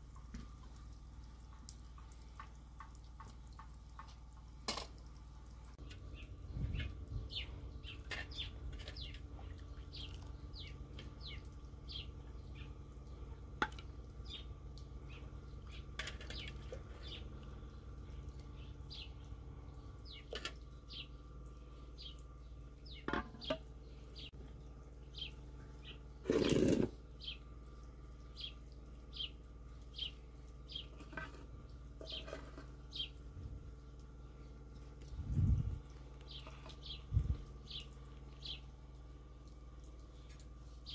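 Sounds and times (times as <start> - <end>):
steady low hum: 0.0 - 40.9
small birds chirping: 5.5 - 40.9.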